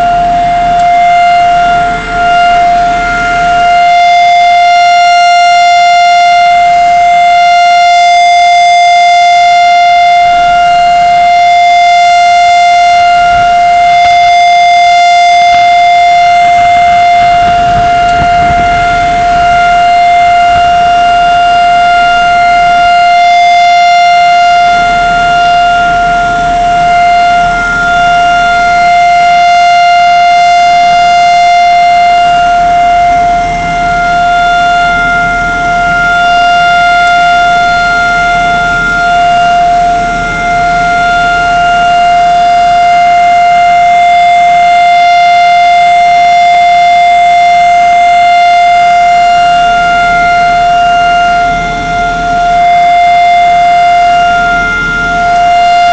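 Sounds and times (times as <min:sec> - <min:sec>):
siren long steady tone: 0:00.0 - 0:55.9.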